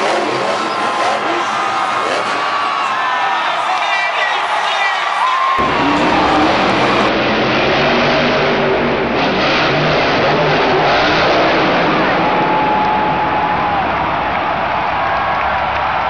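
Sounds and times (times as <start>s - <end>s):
monster truck engine revving: 0.0s - 3.7s, 5.5s - 16.0s.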